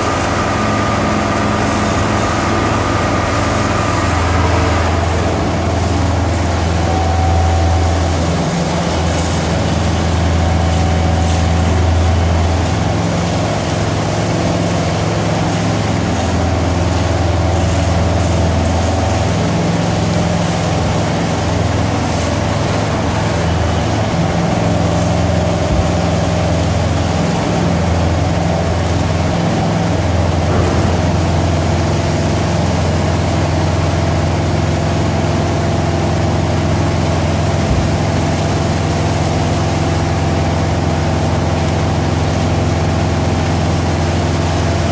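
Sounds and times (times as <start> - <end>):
heavy machinery engines droning: 0.0 - 44.9.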